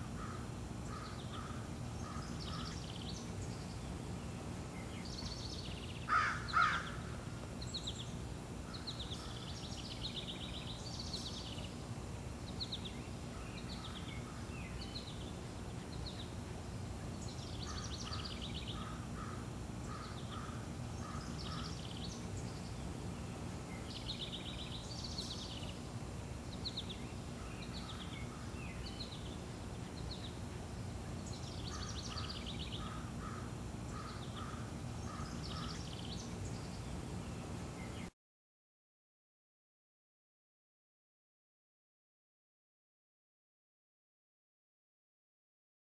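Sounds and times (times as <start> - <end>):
birds chirping and trilling: 0.0 - 38.1
low background noise: 0.0 - 38.1.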